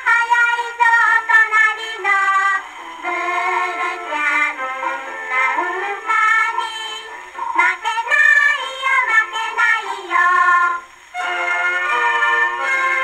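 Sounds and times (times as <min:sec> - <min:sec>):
children singing on old record: 0:00.0 - 0:13.0
small orchestra on gramophone: 0:00.0 - 0:13.0.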